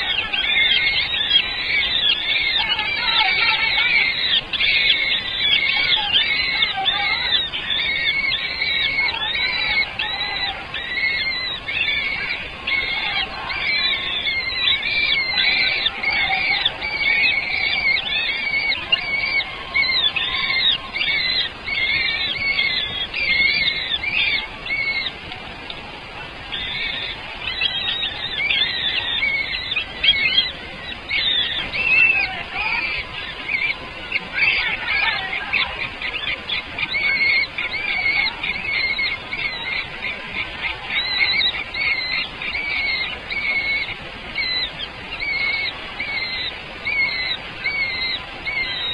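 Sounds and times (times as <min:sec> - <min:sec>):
baby birds chirping: 0:00.0 - 0:25.8, 0:26.4 - 0:48.9.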